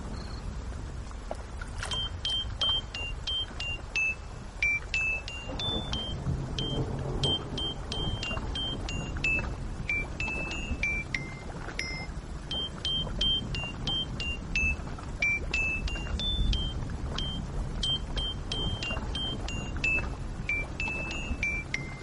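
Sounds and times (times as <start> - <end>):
low rumble: 0.0 - 22.0
high plucked notes melody: 2.1 - 22.0.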